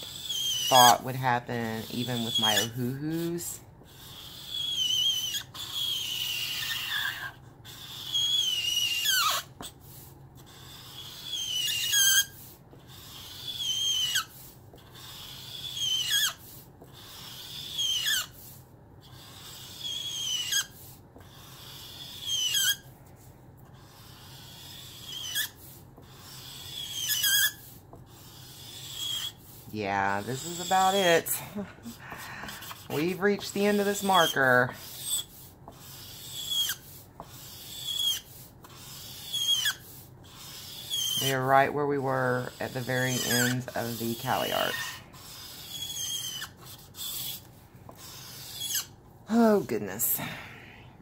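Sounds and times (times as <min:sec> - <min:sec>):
marker squeaking on paper: 0:00.0 - 0:49.7.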